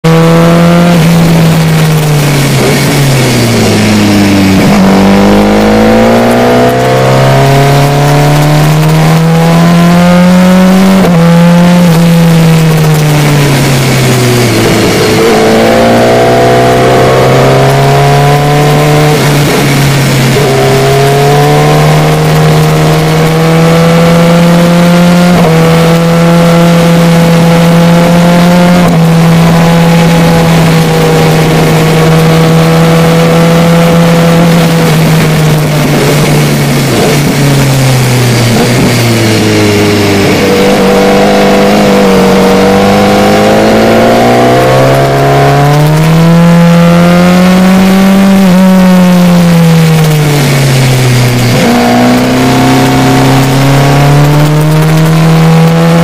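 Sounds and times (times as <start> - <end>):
motorcycle engine revving: 0.0 - 56.0
wind on microphone: 0.1 - 56.0.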